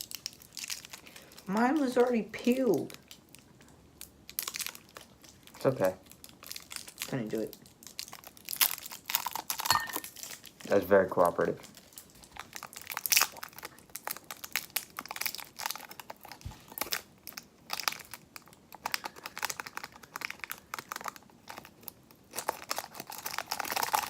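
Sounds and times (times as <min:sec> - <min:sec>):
plastic candy wrapper crinkling: 0:00.0 - 0:24.0.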